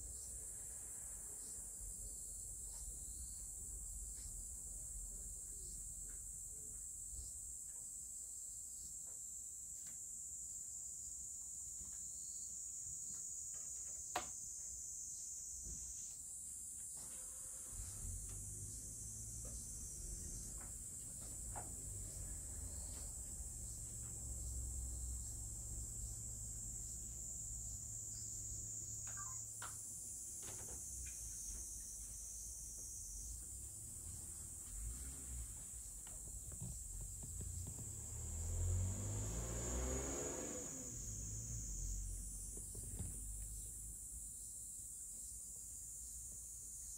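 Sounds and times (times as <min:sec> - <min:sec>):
high-pitched insect chorus: 0:00.0 - 0:46.9.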